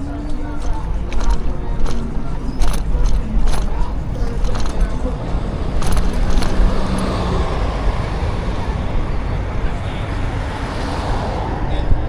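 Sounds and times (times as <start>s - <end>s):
street traffic low rumble: 0.0s - 12.0s.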